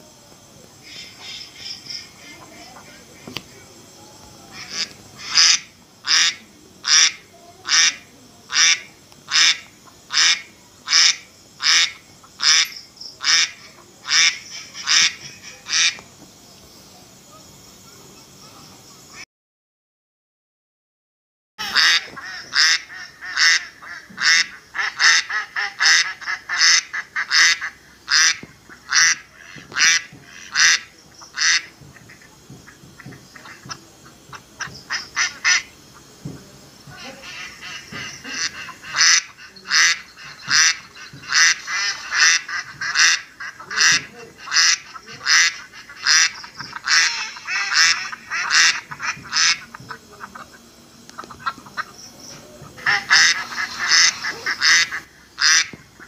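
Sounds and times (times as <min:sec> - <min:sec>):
ducks quacking: 0:04.5 - 0:16.0, 0:21.6 - 0:56.0.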